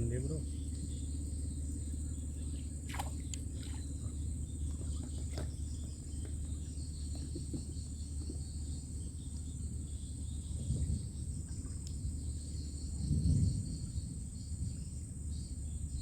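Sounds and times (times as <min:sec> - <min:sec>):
insects chirring: 0:00.0 - 0:16.0
low steady rumble: 0:00.0 - 0:16.0.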